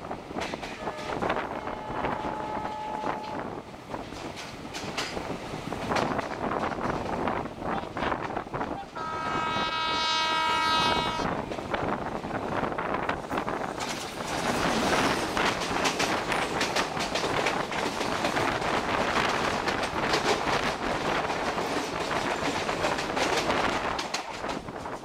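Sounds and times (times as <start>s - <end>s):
diesel locomotive passing: 0.0s - 25.0s
train wheels clattering over rail joints: 0.3s - 7.5s, 11.4s - 25.0s.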